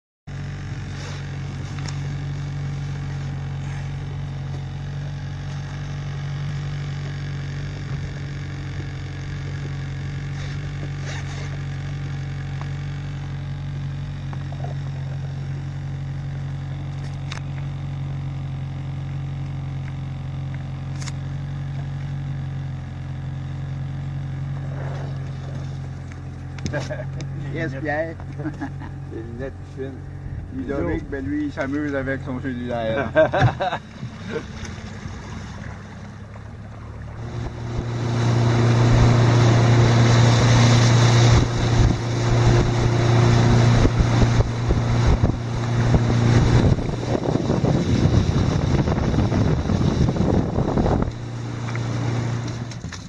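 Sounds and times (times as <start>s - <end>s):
outboard motor droning: 0.3s - 53.0s.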